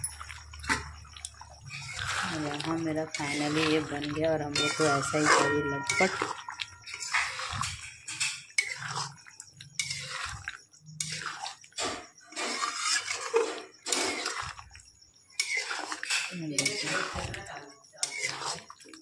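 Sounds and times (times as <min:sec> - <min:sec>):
thick curry bubbling: 0:00.0 - 0:19.0.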